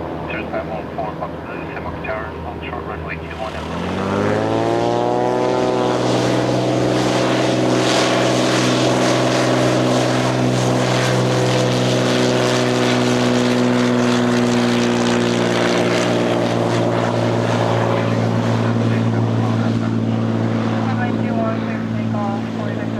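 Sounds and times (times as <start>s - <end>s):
propeller plane engine drone: 0.0s - 22.9s.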